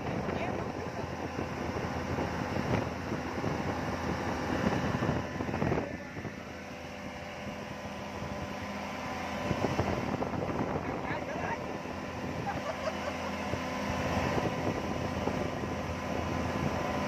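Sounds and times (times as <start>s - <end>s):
outboard motor running: 0.0s - 17.0s
water rushing past hull: 0.0s - 17.0s
wind on microphone: 0.0s - 17.0s.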